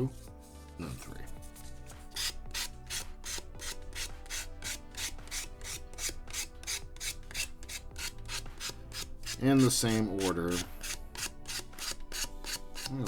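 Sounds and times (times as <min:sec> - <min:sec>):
sanding stick rubbing plastic: 0:01.5 - 0:13.0.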